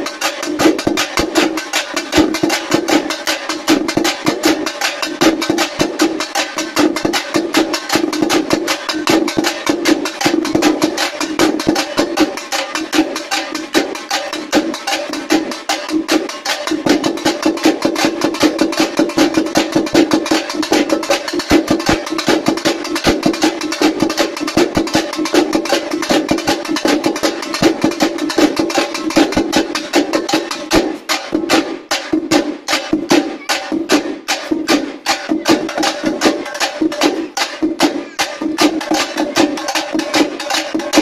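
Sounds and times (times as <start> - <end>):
frame drums beaten with sticks: 0.0 - 41.0.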